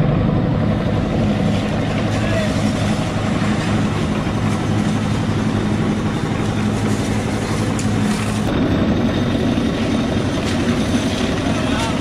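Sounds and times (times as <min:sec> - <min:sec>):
concrete mixer engine humming: 0:00.0 - 0:12.0
street noise: 0:00.0 - 0:12.0.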